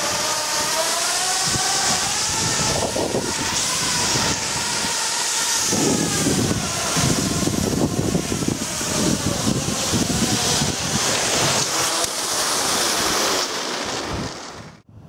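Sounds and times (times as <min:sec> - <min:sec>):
skis hissing over snow: 0:00.0 - 0:14.8
faint wavering whine: 0:00.0 - 0:15.0
wind buffeting microphone: 0:00.0 - 0:15.0.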